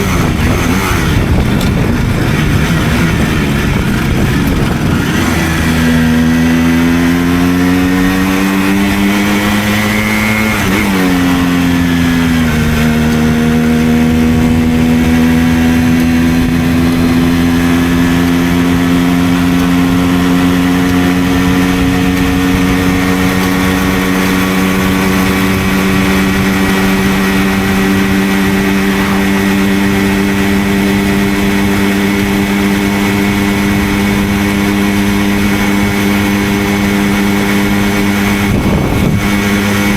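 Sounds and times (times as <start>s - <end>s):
moped two-stroke engine: 0.0s - 39.9s.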